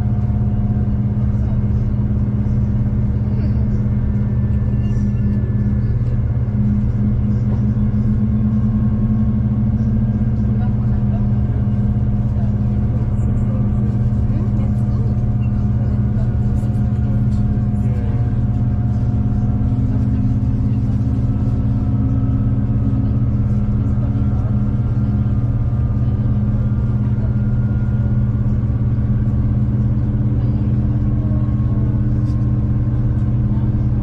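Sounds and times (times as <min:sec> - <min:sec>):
passenger train running: 0:00.0 - 0:34.0.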